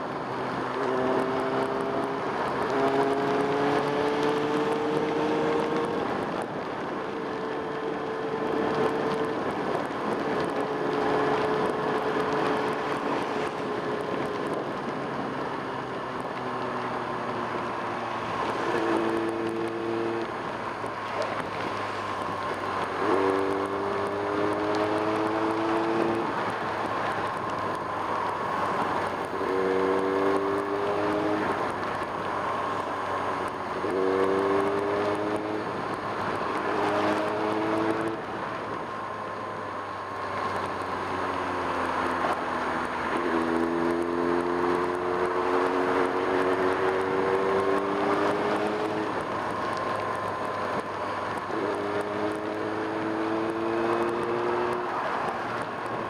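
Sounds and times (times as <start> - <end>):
motorcycle engine accelerating: 0.0 - 56.0
wet road noise: 0.0 - 56.0.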